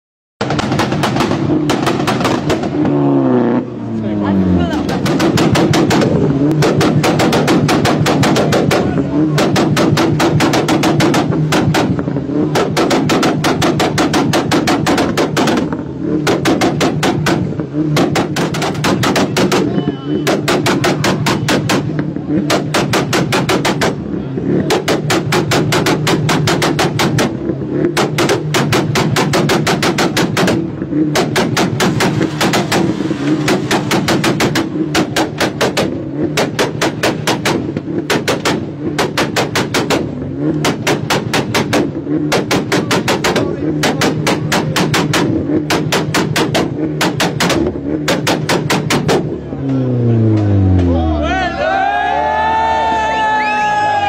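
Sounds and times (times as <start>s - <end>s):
exhaust backfire pops and cracks: 0.4s - 3.1s, 4.8s - 51.0s
car engine revving: 0.4s - 54.0s.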